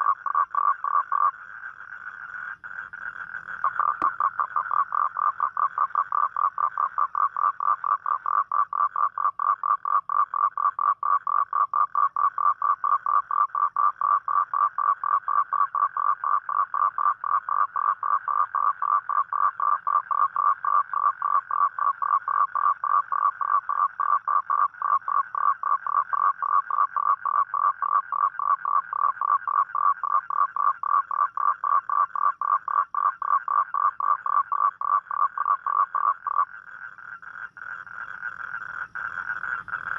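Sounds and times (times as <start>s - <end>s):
toad trilling: 0.0s - 39.9s.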